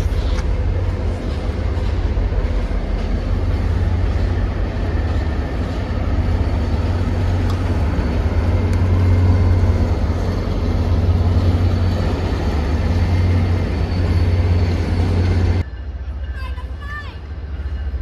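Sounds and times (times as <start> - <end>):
diesel train rumbling past: 0.0 - 18.0.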